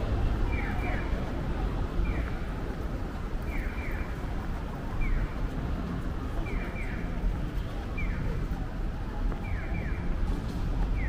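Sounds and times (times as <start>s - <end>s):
city street noise: 0.0s - 11.0s.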